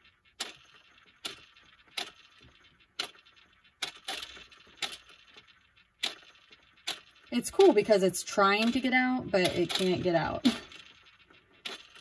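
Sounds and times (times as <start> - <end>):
toy clicking inside plastic egg: 0.2 - 7.9, 8.5 - 12.0.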